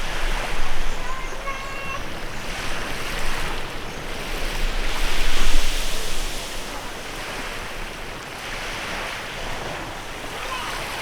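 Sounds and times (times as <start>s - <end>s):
waves washing onto shore: 0.0s - 11.0s.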